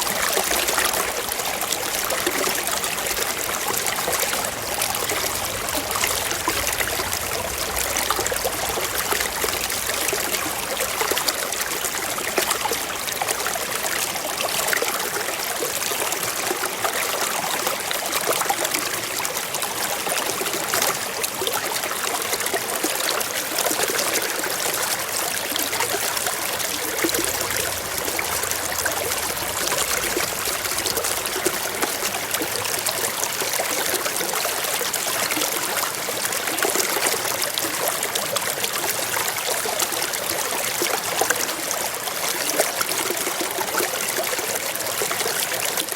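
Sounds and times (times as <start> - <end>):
stream flowing over rocks: 0.0 - 45.9.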